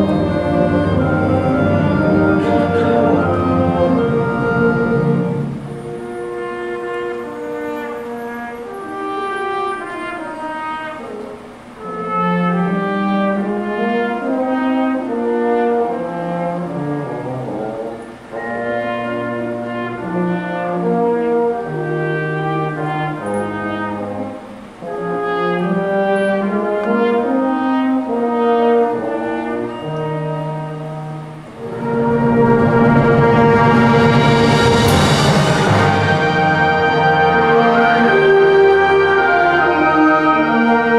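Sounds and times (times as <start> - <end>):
instrumental music with held notes: 0.0 - 40.9.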